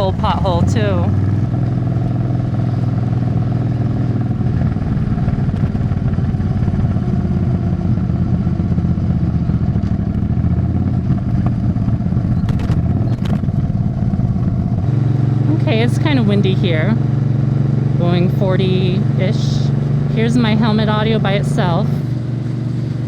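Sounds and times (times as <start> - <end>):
motorcycle engine and exhaust: 0.0 - 23.0.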